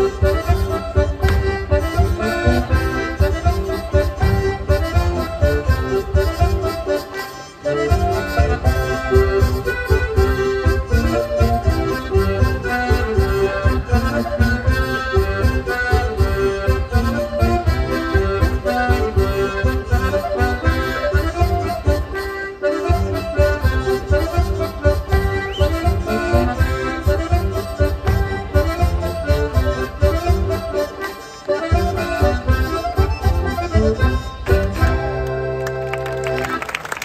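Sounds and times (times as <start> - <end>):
folk dance tune: 0.0 - 37.0.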